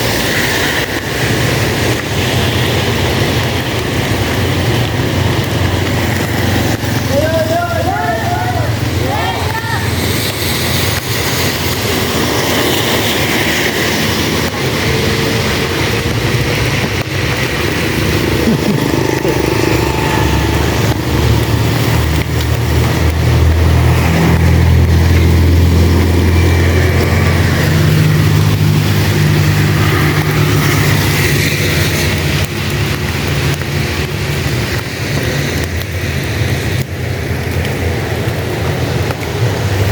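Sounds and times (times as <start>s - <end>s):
heavy rain: 0.0s - 39.9s
vehicle engine humming: 0.0s - 39.9s.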